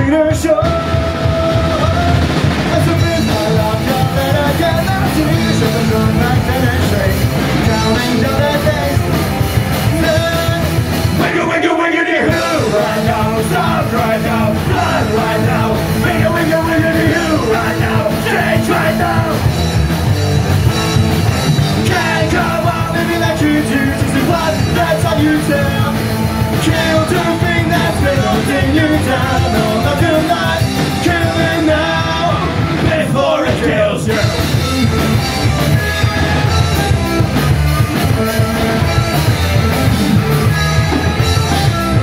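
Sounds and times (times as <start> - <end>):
person singing: 0.0 - 19.5, 21.8 - 37.2
punk rock band playing: 0.0 - 42.0.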